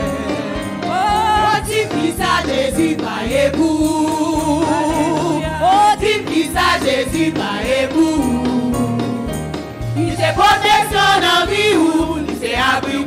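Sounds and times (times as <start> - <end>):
group singing gospel song: 0.0 - 13.0
instrumental backing with beat: 0.0 - 13.0.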